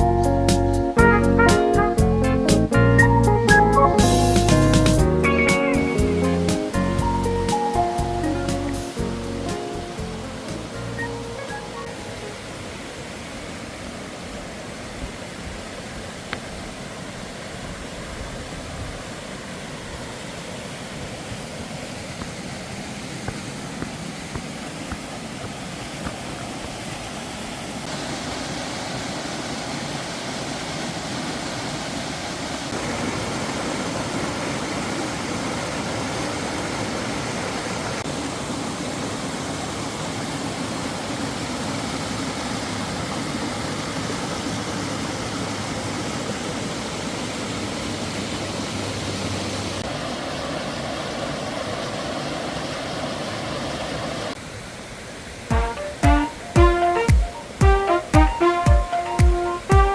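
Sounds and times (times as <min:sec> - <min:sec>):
stream rushing over rocks: 0:03.8 - 0:59.9.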